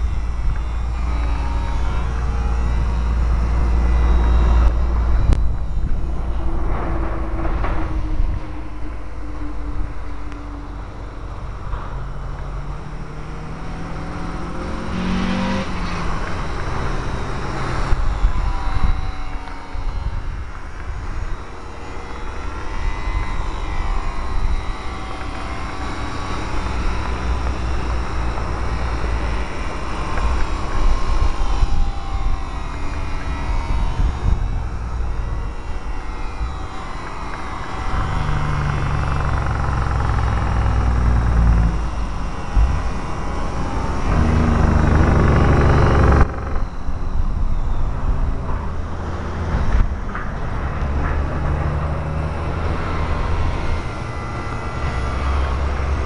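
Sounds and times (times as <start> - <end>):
low rumble: 0.0 - 21.4, 22.0 - 56.0
model plane motor whining: 0.0 - 56.0.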